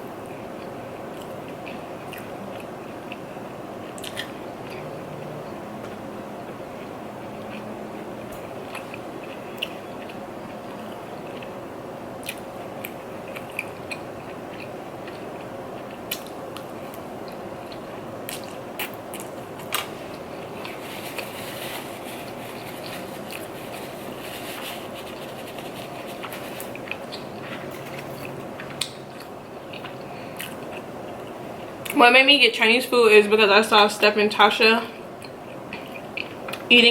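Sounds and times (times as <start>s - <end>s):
steady background hiss: 0.0s - 36.9s
chewing with crunches: 0.2s - 32.0s, 35.0s - 36.7s.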